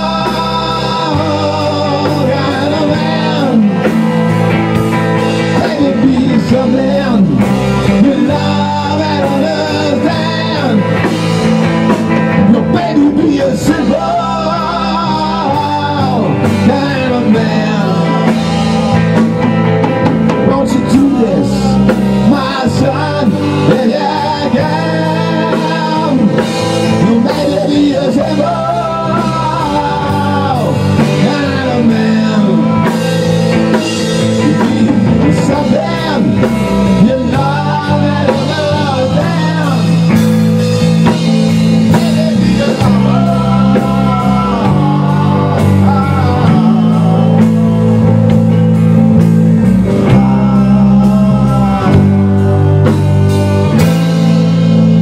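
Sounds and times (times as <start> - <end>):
electric guitar lead bending: 0.0 - 55.0
rock band playing live: 0.0 - 55.0.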